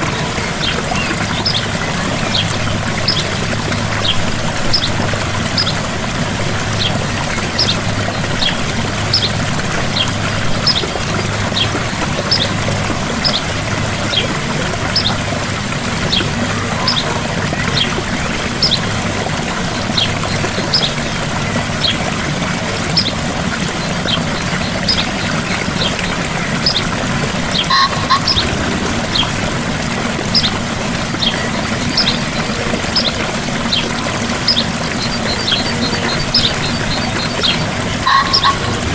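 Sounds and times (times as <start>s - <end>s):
waterfall splashing: 0.0s - 38.9s.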